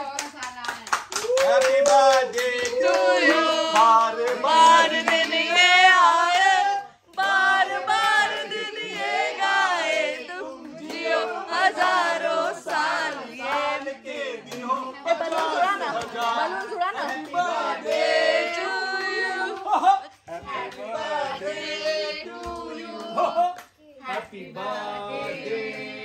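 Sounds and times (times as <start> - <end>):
voices singing together: 1.4 - 26.0.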